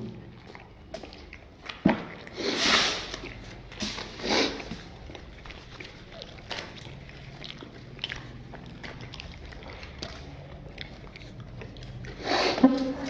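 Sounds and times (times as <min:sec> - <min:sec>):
chewing and tearing bread: 0:00.0 - 0:13.0
mouth clicks and smacks: 0:00.0 - 0:13.0.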